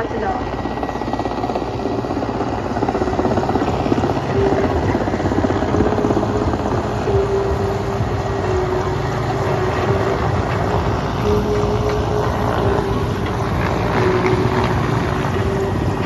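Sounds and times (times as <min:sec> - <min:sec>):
helicopter engine whine: 0:00.0 - 0:16.0
helicopter rotor chop: 0:00.0 - 0:16.0.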